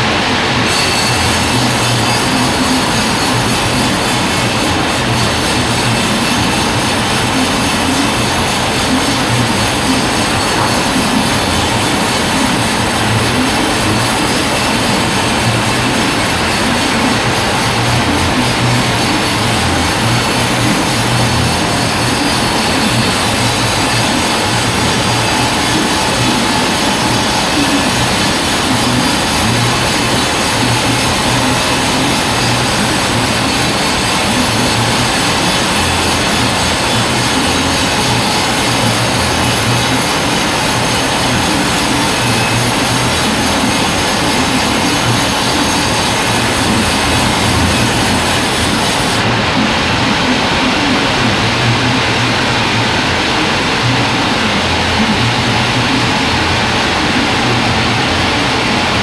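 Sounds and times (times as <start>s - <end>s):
band saw cutting log: 0.0s - 49.7s.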